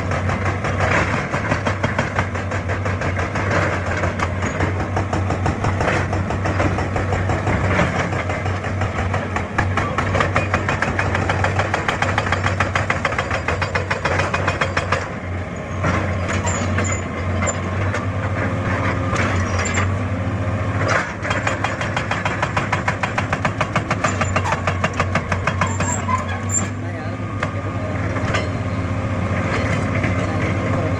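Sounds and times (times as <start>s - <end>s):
diesel engine rattling: 0.0s - 30.9s.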